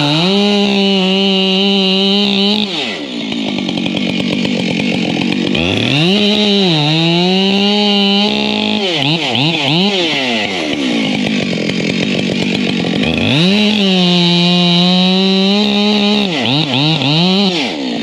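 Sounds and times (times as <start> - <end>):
chainsaw revving and idling: 0.0 - 18.0.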